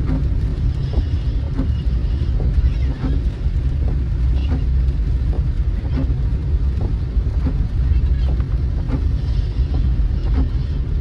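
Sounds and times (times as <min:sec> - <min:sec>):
car road and engine rumble: 0:00.0 - 0:11.0
rain hiss: 0:00.0 - 0:11.0.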